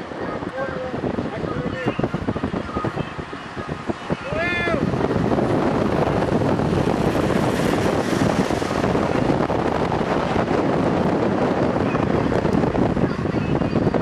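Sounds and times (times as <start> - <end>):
road and engine rumble: 0.0 - 14.0
wind buffeting microphone: 0.0 - 14.0.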